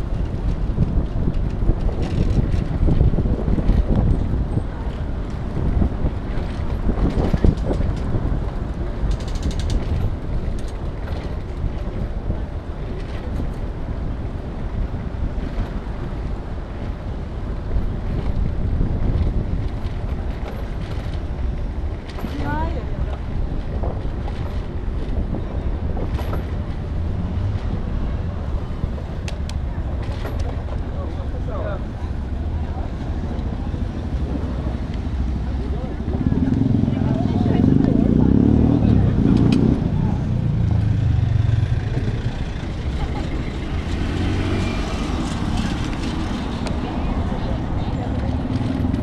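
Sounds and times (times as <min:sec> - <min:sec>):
bicycle tyres rumbling on street: 0:00.0 - 0:49.0
bike rolling on pavement: 0:00.0 - 0:49.0
wind on microphone: 0:00.0 - 0:49.0.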